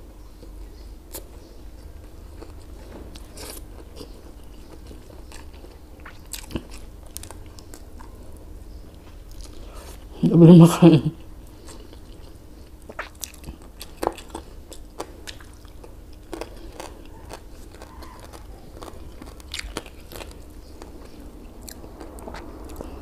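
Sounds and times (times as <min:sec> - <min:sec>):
faint low hum: 0:00.0 - 0:23.0
chewing and mouth smacks: 0:00.4 - 0:10.1, 0:11.5 - 0:23.0.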